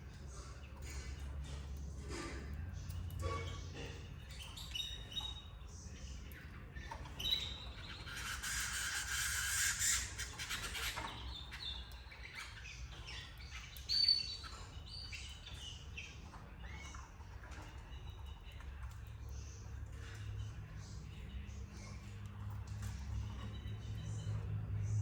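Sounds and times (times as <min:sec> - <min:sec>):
canaries chirping: 0:00.0 - 0:25.0.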